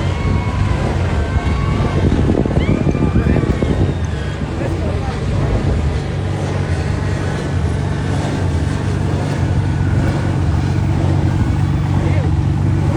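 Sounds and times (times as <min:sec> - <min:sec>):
low motor hum: 0:00.0 - 0:12.9.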